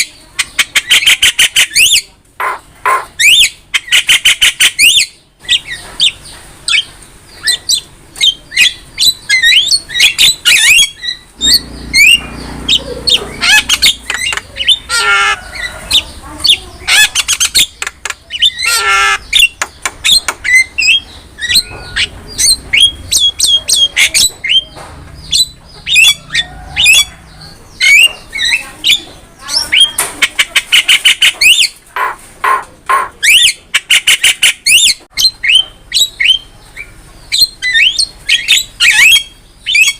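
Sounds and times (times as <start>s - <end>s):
bird singing varied song: 0.0s - 32.1s, 32.9s - 39.9s.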